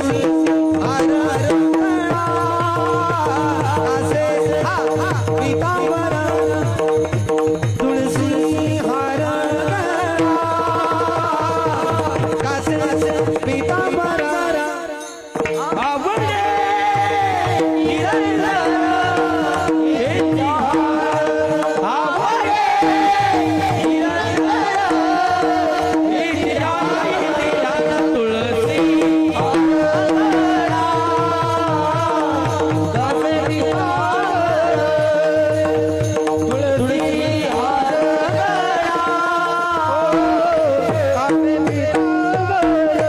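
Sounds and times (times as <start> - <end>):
fast hand drum rhythm: 0.0 - 43.0
wavering devotional melody: 0.0 - 43.0.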